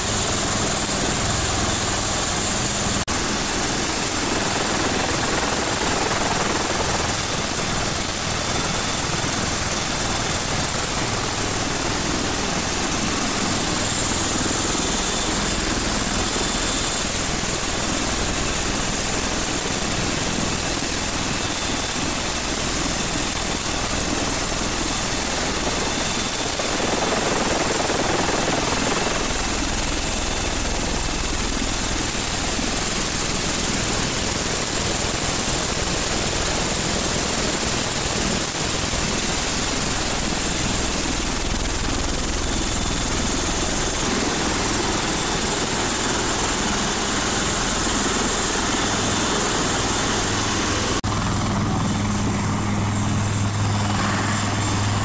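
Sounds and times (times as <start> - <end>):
helicopter rotor and engine noise: 0.0 - 55.0
helicopter turbine whine: 0.0 - 55.0.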